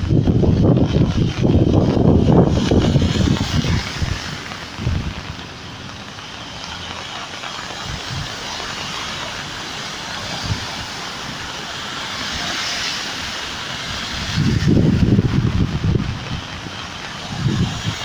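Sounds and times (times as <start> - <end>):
wind buffeting microphone: 0.0 - 11.5, 13.1 - 18.0
heavy rain hiss: 0.0 - 18.0
traffic on wet street: 0.0 - 18.0.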